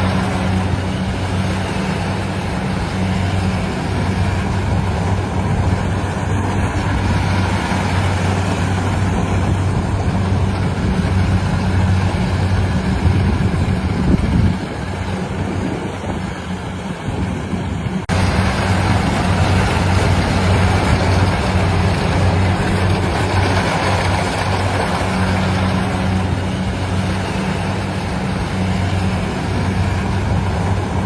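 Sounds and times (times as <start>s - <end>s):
farm machinery engine running: 0.0s - 31.0s.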